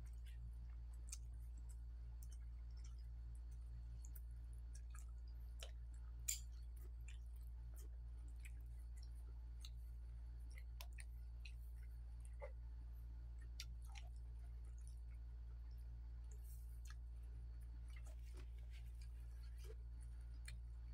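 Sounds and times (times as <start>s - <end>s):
chewing and mouth clicks: 0.0s - 12.6s, 13.2s - 20.9s
steady low hum: 0.0s - 20.9s.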